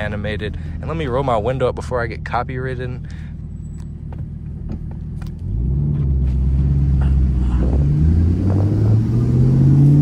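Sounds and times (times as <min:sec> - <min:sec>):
car engine rumbling: 0:00.0 - 0:10.0
engine and exhaust drone: 0:00.0 - 0:10.0.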